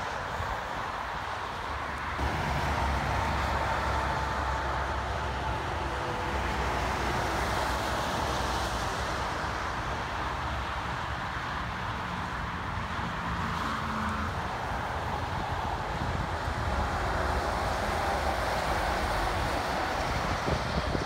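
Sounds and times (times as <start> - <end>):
highway traffic: 0.0 - 21.0.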